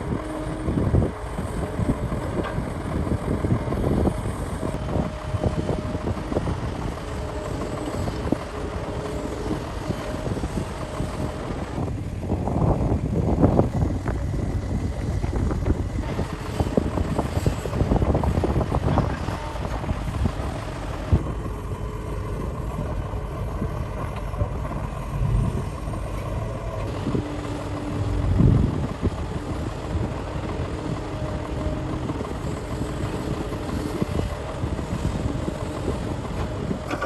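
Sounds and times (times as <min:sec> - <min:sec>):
excavator diesel engine running: 0:00.0 - 0:37.0
steady hum: 0:00.0 - 0:37.0
wind buffeting the microphone: 0:00.0 - 0:37.0.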